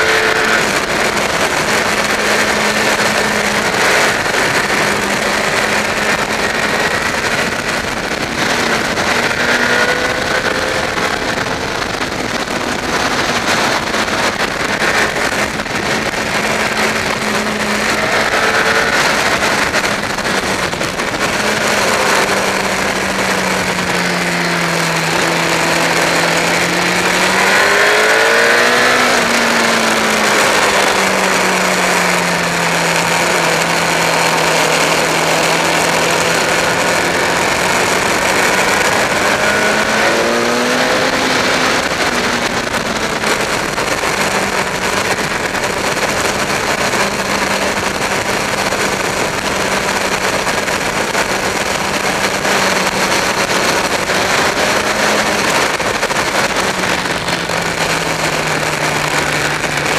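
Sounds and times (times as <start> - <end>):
motorcycle engine accelerating: 0.0 - 59.9
wind rush: 0.0 - 59.9.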